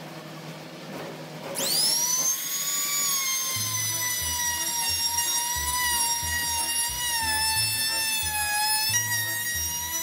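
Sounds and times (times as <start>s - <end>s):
trim router motor whine: 1.6s - 10.0s.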